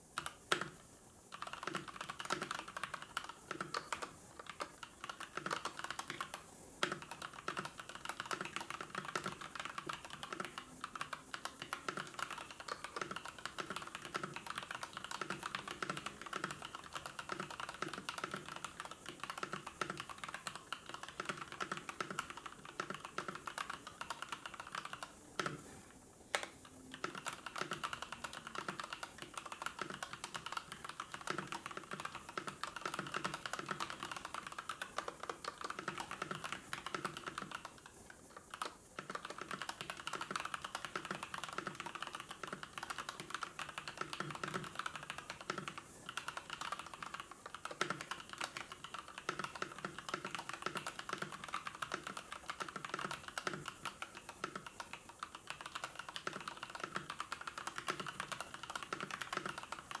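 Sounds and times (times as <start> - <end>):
typing on computer keyboard: 0.2 - 25.6, 26.3 - 60.0.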